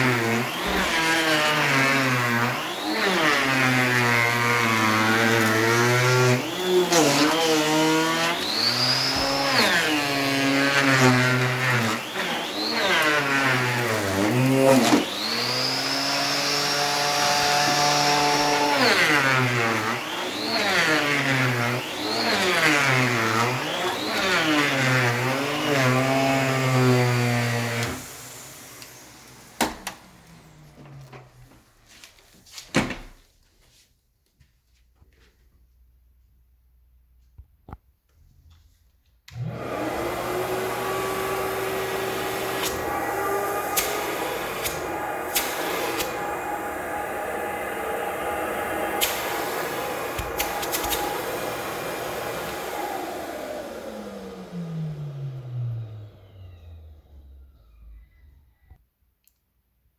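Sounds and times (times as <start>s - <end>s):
vacuum motor running: 0.0s - 31.6s, 39.3s - 58.3s.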